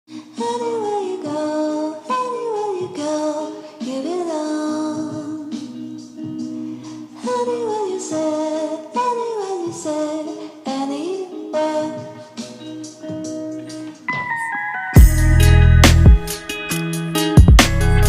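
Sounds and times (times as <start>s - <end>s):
high voice singing song: 0.1s - 16.8s.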